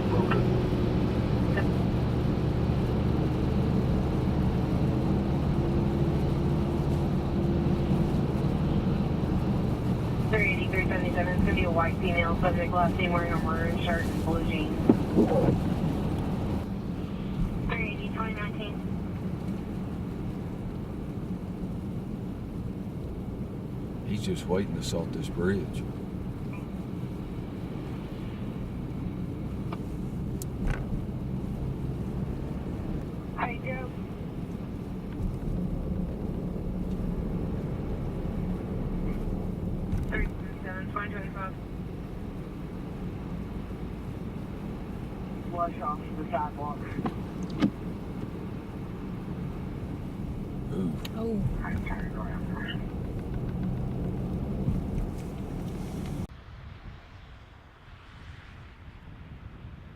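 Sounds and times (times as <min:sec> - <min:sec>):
engine and road noise drone: 0:00.0 - 0:59.9.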